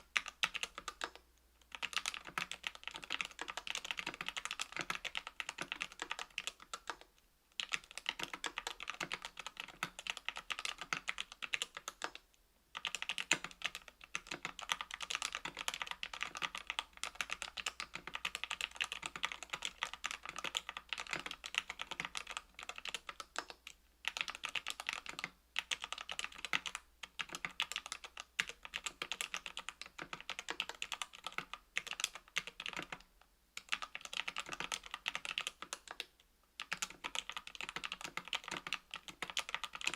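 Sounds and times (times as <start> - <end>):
fast typing on mechanical keyboard: 0.1 - 39.9.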